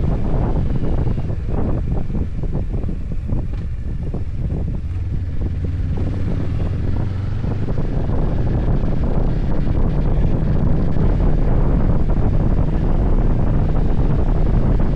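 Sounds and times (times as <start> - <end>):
motorcycle engine hum: 0.0 - 14.9
wind buffeting on microphone: 0.0 - 14.9.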